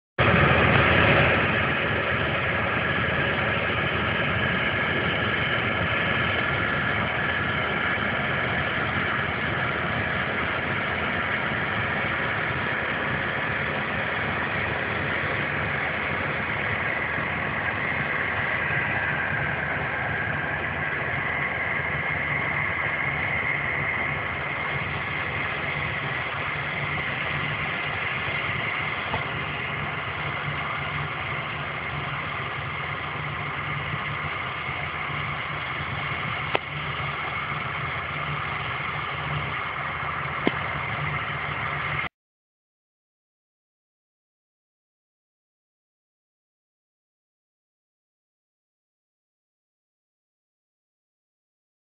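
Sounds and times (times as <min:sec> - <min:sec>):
combine harvester droning: 0:00.2 - 0:42.1.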